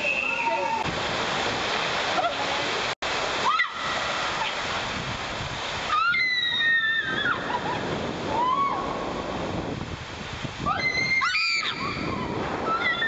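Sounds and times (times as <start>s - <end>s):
water rushing down slide: 0.0s - 13.0s.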